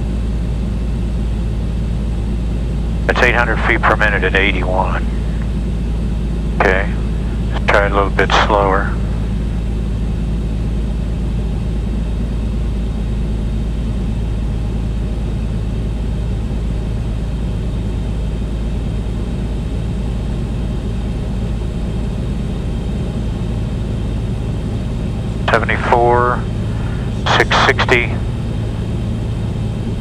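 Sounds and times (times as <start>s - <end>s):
aircraft engine and airflow drone: 0.0s - 30.0s.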